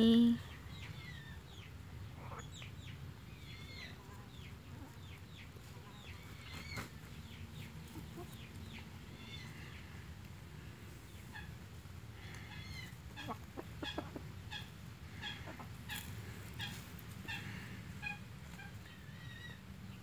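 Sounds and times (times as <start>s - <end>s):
chicks peeping: 0.2s - 20.0s.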